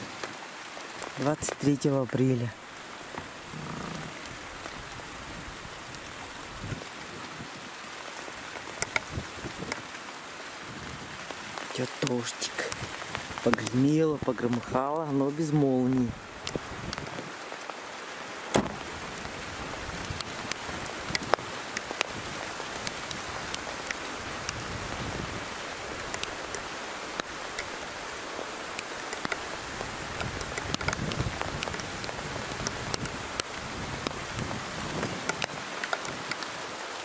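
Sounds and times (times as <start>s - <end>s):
light rain falling: 0.0s - 37.0s
sharp ticks of raindrops: 0.0s - 37.0s.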